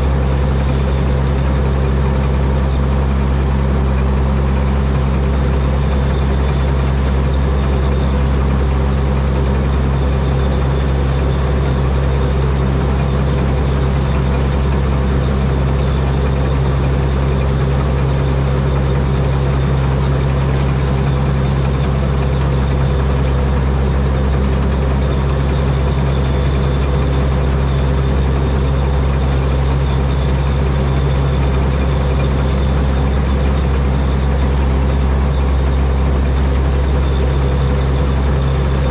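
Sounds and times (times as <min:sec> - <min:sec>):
diesel engine low drone: 0:00.0 - 0:38.9.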